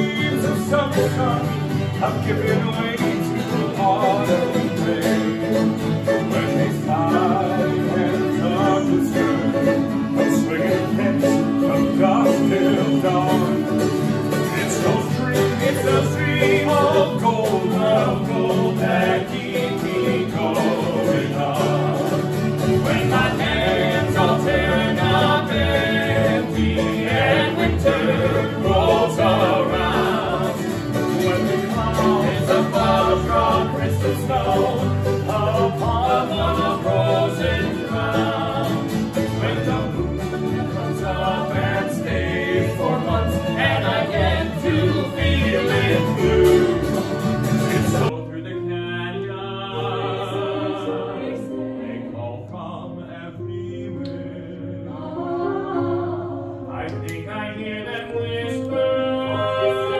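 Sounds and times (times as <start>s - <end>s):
acoustic guitars strumming: 0.0s - 52.8s
men singing together: 0.0s - 56.0s, 56.7s - 59.9s.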